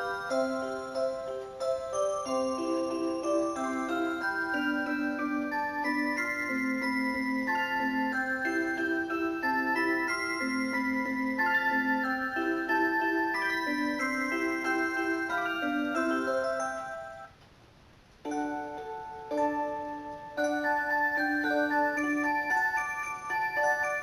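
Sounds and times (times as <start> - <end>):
alarm clock electronic melody: 0.0 - 17.3, 18.2 - 24.0.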